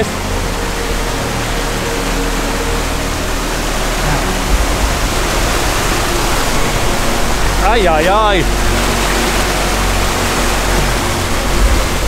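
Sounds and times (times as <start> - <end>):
stream cascading down waterfall: 0.0 - 12.0.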